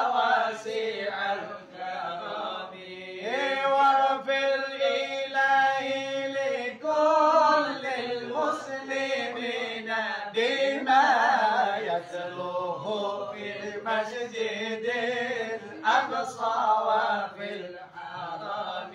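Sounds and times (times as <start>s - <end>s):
man singing devotional chant: 0.0s - 18.9s.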